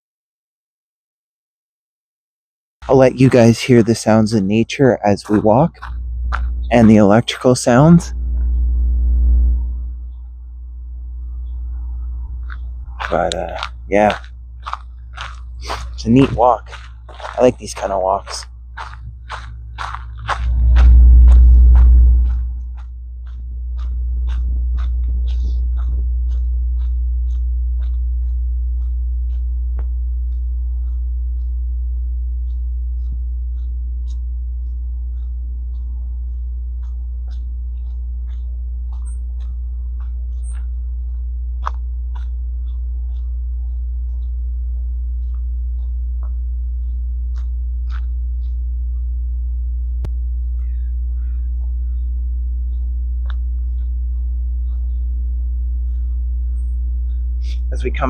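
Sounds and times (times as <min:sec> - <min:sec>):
power lines humming: 0:02.8 - 0:58.0
footsteps on trail: 0:02.9 - 0:08.8, 0:11.2 - 0:58.0.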